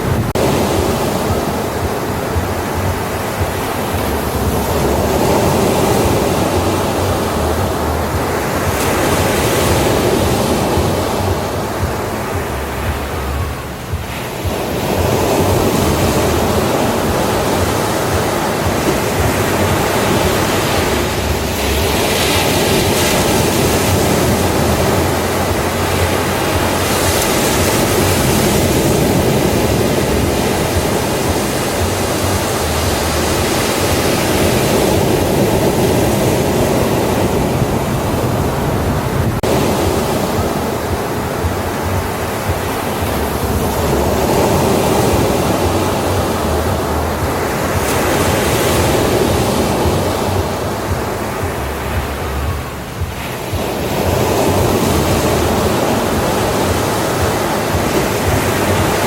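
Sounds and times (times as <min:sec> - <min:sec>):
ocean waves washing on beach: 0:00.0 - 0:59.0.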